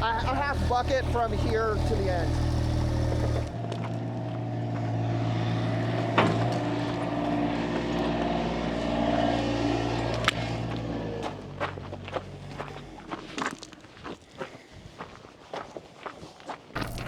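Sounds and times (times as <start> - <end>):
earthmover engine running: 0.0 - 13.7, 16.8 - 17.0.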